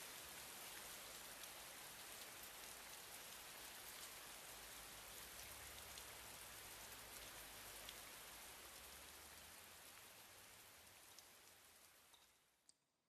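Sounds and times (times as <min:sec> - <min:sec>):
faint rain hiss: 0:00.0 - 0:12.8.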